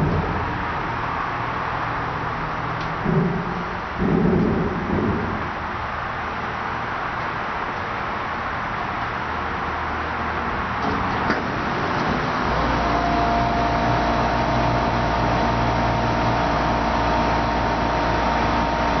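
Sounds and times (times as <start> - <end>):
constant background noise: 0.0 - 19.0
streetcar motor hum and whine: 0.0 - 19.0.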